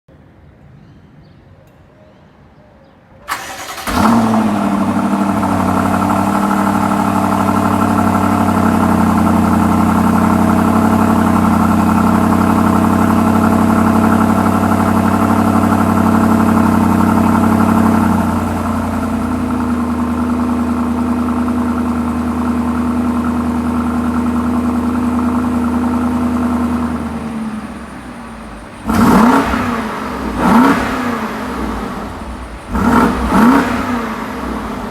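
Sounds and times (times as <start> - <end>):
car engine idling: 3.3 - 34.9
car engine starting: 3.3 - 34.9
engine revving: 3.3 - 34.9.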